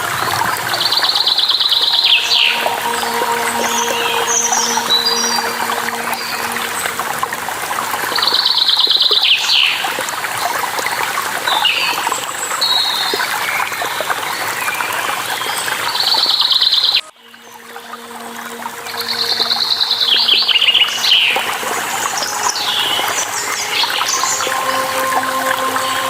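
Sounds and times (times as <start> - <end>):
falling water rushing: 0.0 - 16.7, 17.3 - 26.0.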